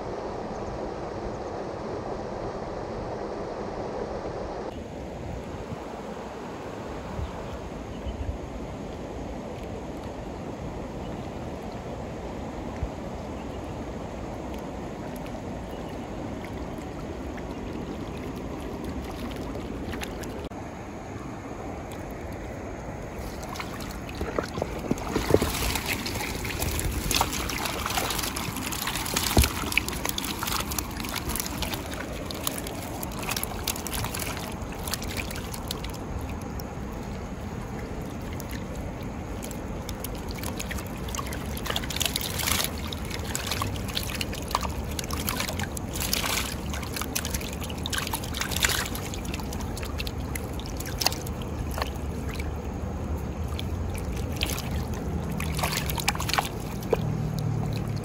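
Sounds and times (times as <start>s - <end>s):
creek rushing: 0.0s - 58.0s.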